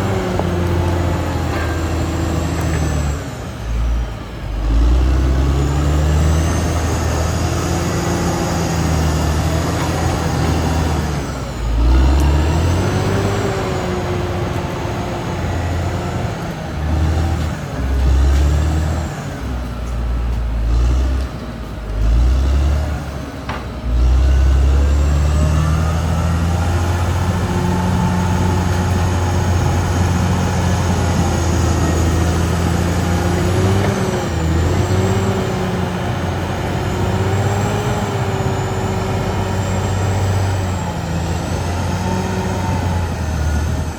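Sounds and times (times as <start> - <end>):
bulldozer diesel engine working: 0.0 - 43.9
high engine whine: 0.0 - 43.9.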